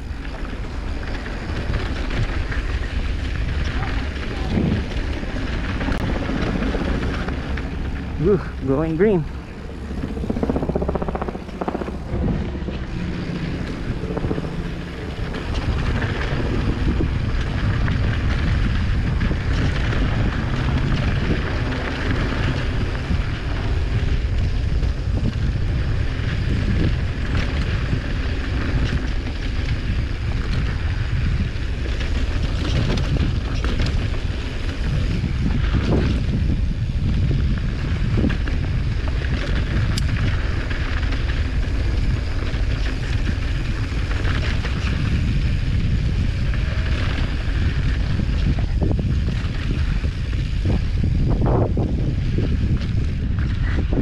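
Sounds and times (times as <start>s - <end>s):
bike knocking and rattling: 0.0s - 54.0s
tyres on dirt trail: 0.0s - 54.0s
wind buffeting microphone: 0.0s - 54.0s.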